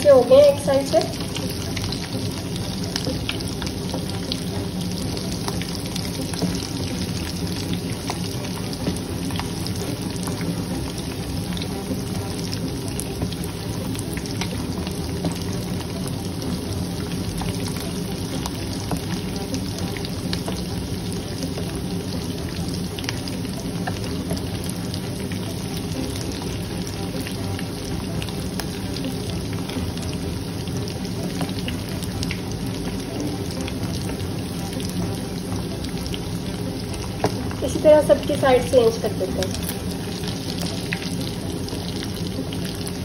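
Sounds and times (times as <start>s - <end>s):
meat deep-frying in oil: 0.0s - 43.0s.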